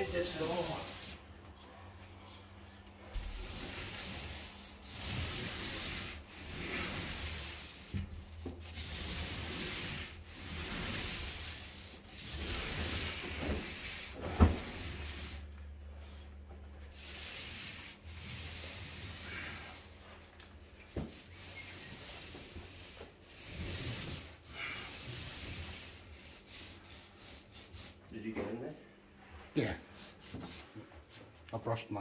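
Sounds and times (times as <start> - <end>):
paint roller rubbing on ceiling: 0.0 - 31.3.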